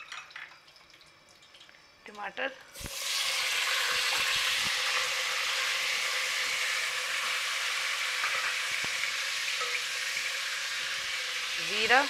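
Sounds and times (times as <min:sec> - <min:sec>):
tomatoes sizzling in oil: 0:01.6 - 0:12.0.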